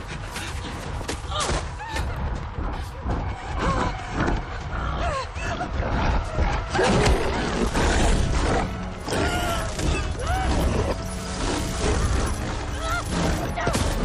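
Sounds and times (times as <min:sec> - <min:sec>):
dramatic film score: 0:00.0 - 0:14.0.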